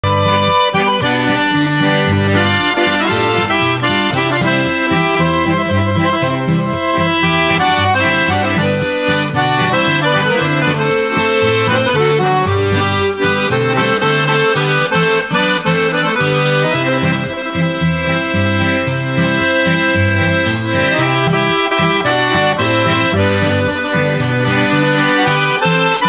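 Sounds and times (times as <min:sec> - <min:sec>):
accordion music: 0:00.0 - 0:26.0.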